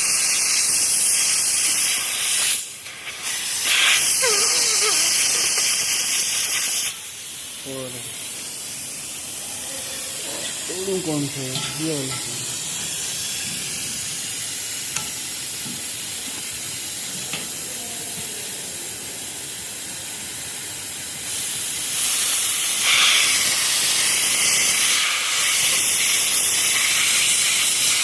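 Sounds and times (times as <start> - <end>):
pressurised gas hissing from pipe: 0.0 - 28.0.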